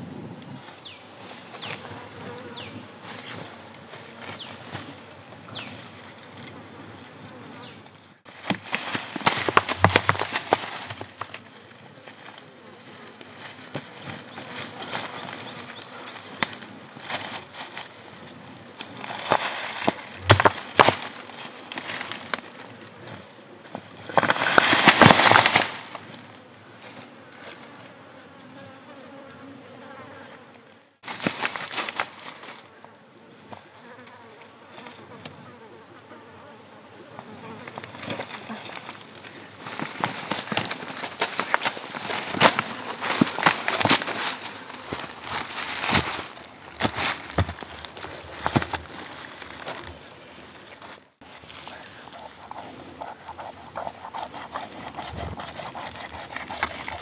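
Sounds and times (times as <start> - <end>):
insect buzzing: 0.6 - 8.1, 9.2 - 48.3, 51.7 - 57.0.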